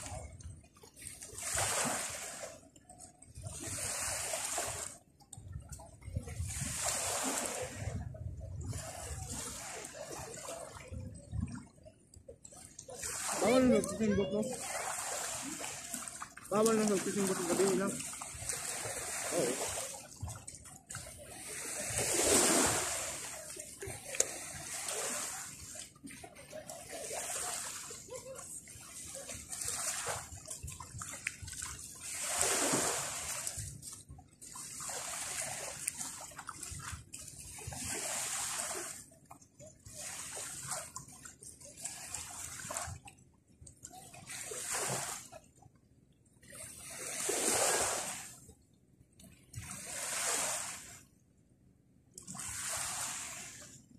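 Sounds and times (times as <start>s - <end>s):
waves splashing onto shore: 0.0s - 43.1s, 44.1s - 45.4s, 46.5s - 48.5s, 49.5s - 51.1s, 52.2s - 53.9s.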